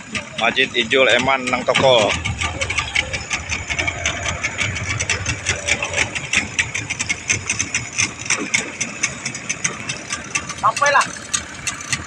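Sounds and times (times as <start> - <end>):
boat engine knocking: 0.0 - 12.0.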